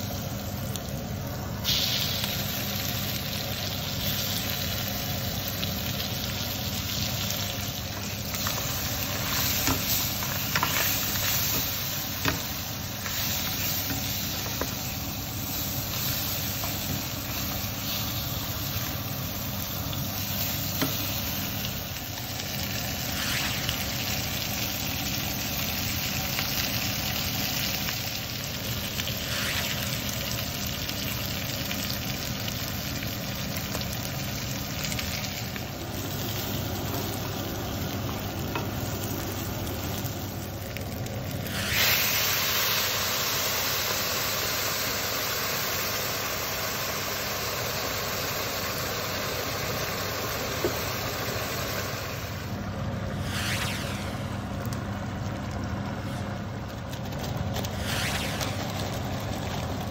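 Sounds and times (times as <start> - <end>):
food sizzling in a pan: 0.0 - 52.5
water hissing in hot pan: 0.0 - 52.6.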